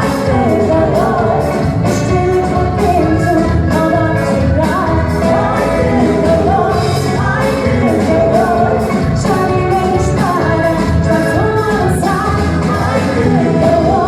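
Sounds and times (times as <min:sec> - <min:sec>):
live band music: 0:00.0 - 0:14.0
person singing: 0:00.0 - 0:14.0
steady drum beat: 0:00.0 - 0:14.0.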